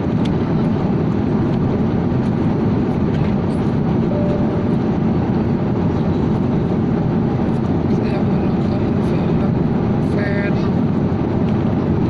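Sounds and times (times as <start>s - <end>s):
jet airliner cabin roar: 0.0s - 12.0s.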